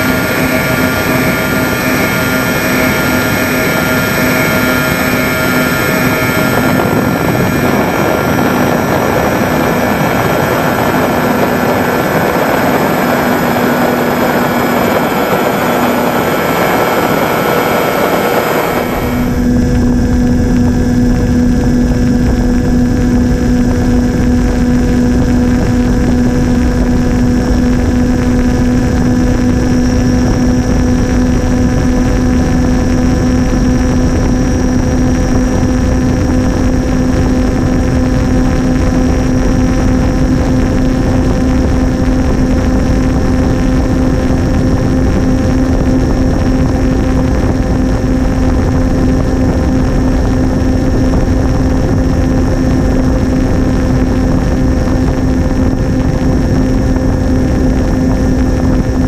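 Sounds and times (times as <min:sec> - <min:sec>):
airflow rushing: 0:00.0 - 0:59.0
faint high motor whine: 0:00.0 - 0:59.0
motors and propellers droning: 0:00.0 - 0:59.0.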